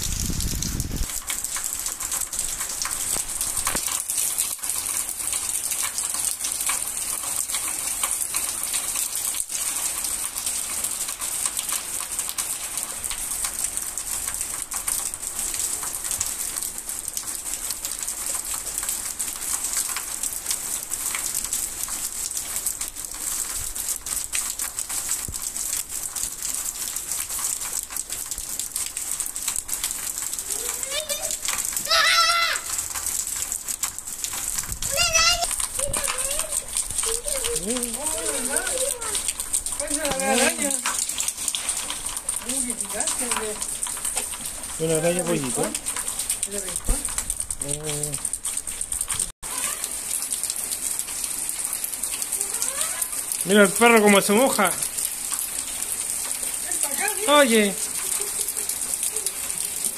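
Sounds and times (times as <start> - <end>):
torrential rain falling: 0.0 - 59.9.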